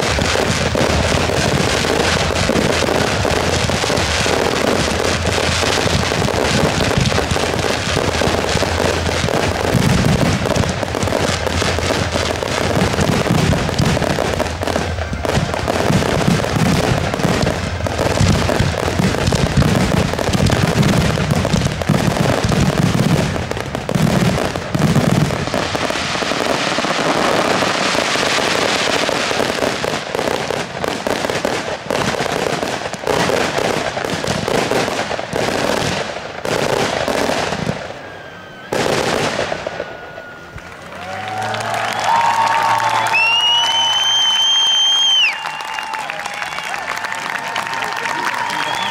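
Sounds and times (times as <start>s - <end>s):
deep fireworks booms: 0.0s - 40.8s
fireworks bursts and crackling: 0.0s - 48.9s.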